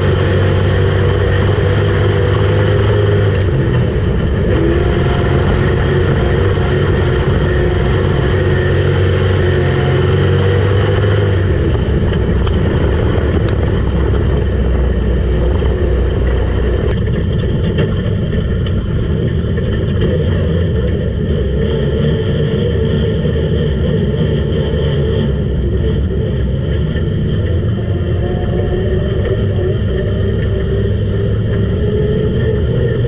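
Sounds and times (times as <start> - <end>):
race car engine running hard: 0.0 - 33.0.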